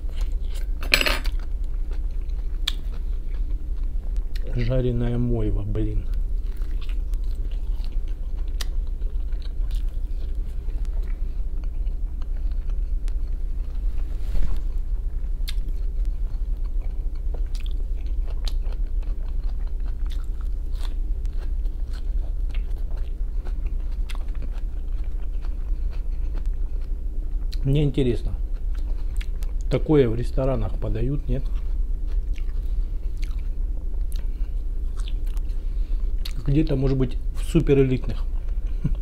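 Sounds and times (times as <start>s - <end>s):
close chewing and crunching: 0.0s - 14.8s, 15.4s - 39.0s
low steady hum: 0.0s - 39.0s.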